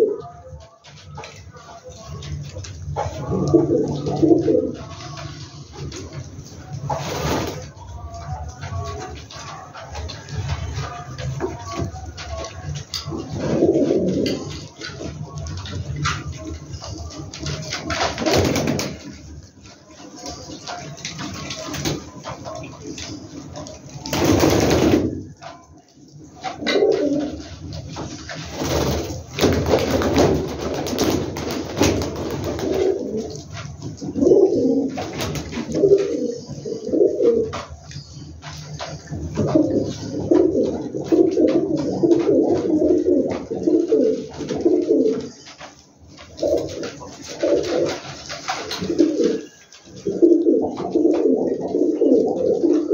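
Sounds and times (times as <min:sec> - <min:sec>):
pigeons cooing: 0:00.0 - 0:52.9.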